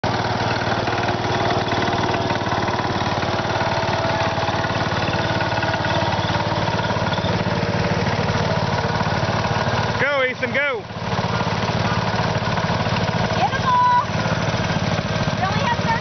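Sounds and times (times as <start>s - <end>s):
small tractor engine puttering: 0.0s - 16.0s.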